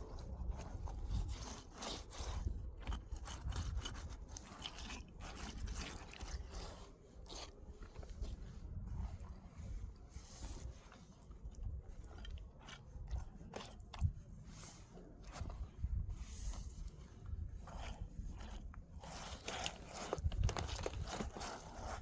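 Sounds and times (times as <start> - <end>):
scraping on rough surface: 0.0 - 22.0.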